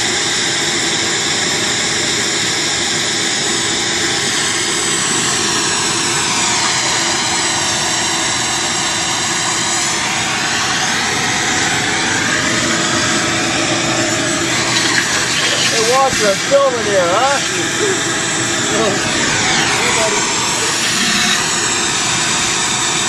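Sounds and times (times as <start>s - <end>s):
shop vacuum motor whine: 0.0s - 23.0s.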